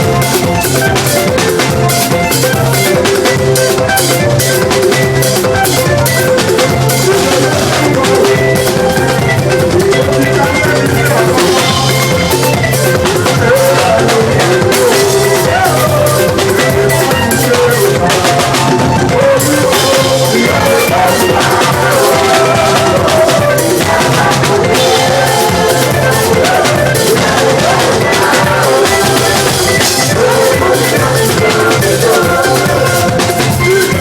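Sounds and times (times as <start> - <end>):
church band music: 0.0 - 34.0
drum kit beat: 0.0 - 34.0.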